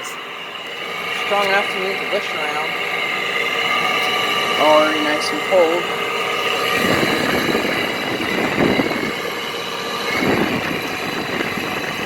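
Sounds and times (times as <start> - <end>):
window air conditioner running: 0.0 - 12.0.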